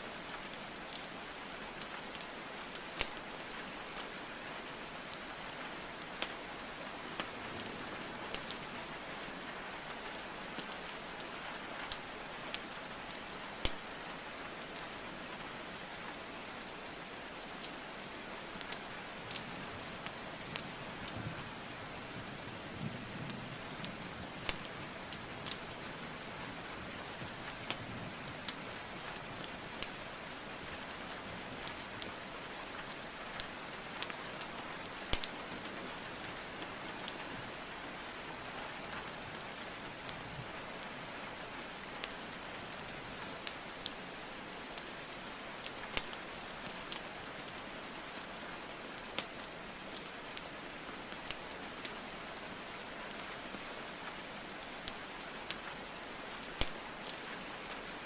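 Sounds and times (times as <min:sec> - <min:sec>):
rainfall hiss: 0:00.0 - 0:58.0
wood fire crackling: 0:00.2 - 0:22.7, 0:23.3 - 0:58.0.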